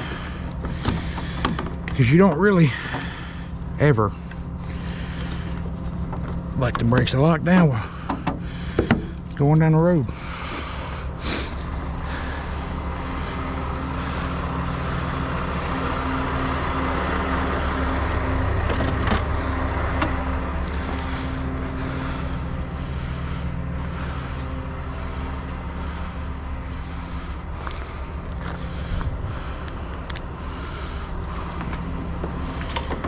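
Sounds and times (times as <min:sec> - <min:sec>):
truck diesel engine idling: 0:00.0 - 0:33.0.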